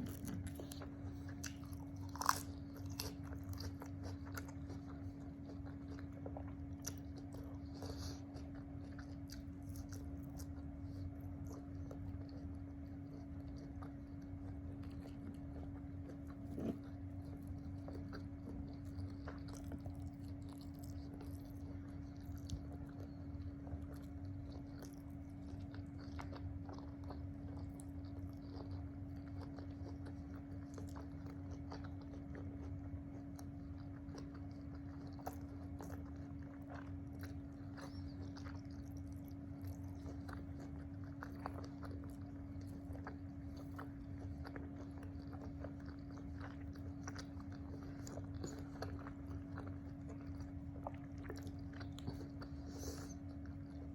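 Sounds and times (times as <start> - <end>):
person chewing food: 0.0 - 53.9
steady hum: 0.0 - 53.9.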